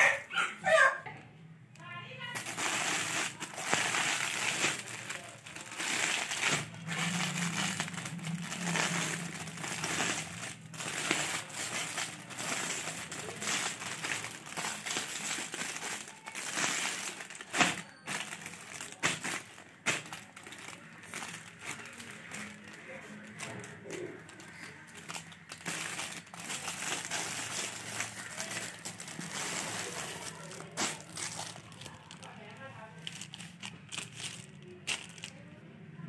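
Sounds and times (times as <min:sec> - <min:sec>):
plastic bag crinkling: 0:01.8 - 0:35.5.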